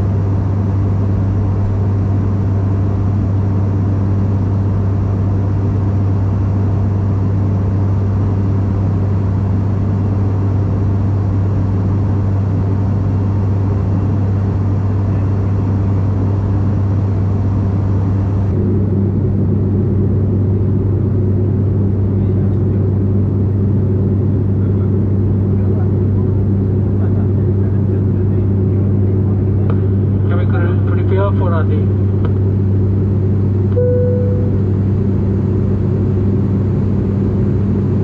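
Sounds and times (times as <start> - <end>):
airliner cabin drone: 0.0 - 38.0.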